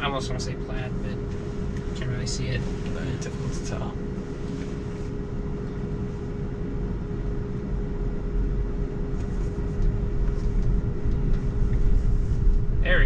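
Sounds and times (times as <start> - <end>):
car cabin rumble: 0.0 - 13.0
electric car hum: 0.0 - 13.0.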